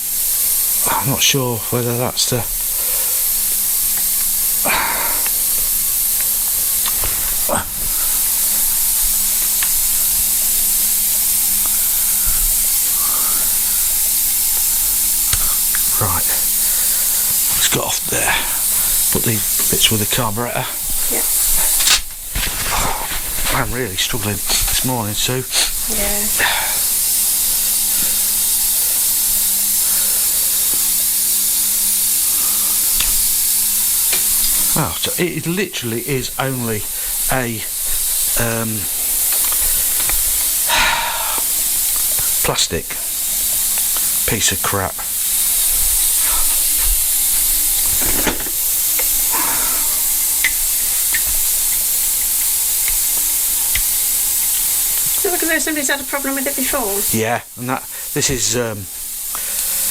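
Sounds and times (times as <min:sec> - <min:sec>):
high-pitched background hiss: 0:00.0 - 0:59.9.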